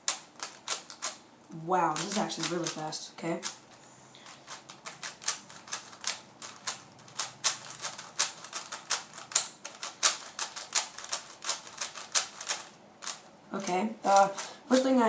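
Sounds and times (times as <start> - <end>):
speed cube plastic clicks: 0.0 - 1.2, 1.9 - 2.8, 3.4 - 3.6, 4.2 - 14.8.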